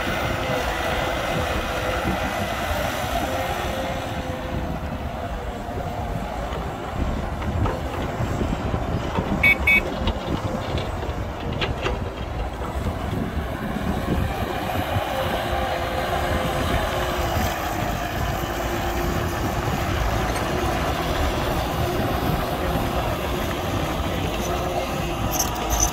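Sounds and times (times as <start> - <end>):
dump truck engine: 0.0 - 25.9
excavator diesel engine: 0.0 - 25.9.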